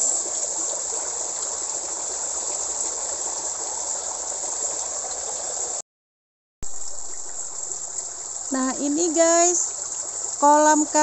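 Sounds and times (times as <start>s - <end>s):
water trickling and splashing: 0.0s - 5.8s, 6.6s - 11.0s.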